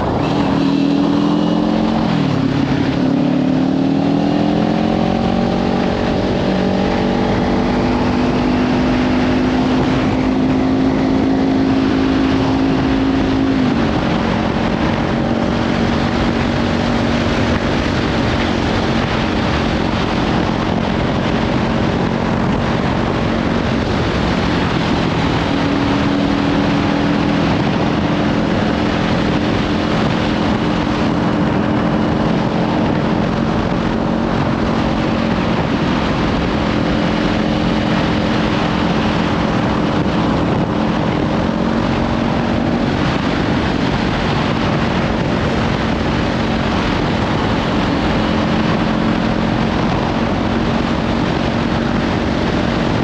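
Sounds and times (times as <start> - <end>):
motorcycle engine riding: 0.0 - 53.0
wind noise on microphone: 0.0 - 53.0.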